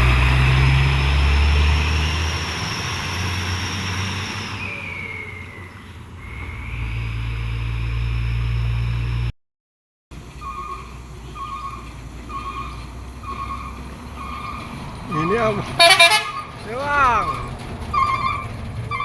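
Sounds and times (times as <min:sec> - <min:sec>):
quieter truck engine running: 0:00.0 - 0:09.3, 0:10.1 - 0:19.0
truck diesel engine labouring: 0:00.0 - 0:09.3, 0:10.1 - 0:19.0.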